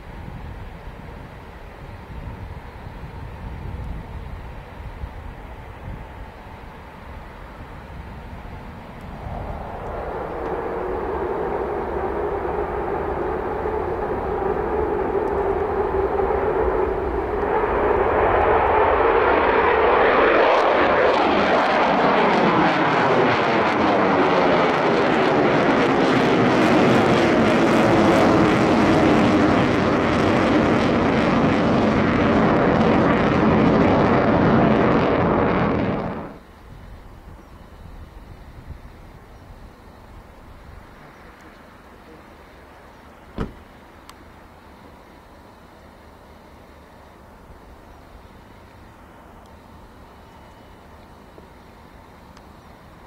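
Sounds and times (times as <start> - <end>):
jet engines roaring on take-off: 0.0 - 53.0.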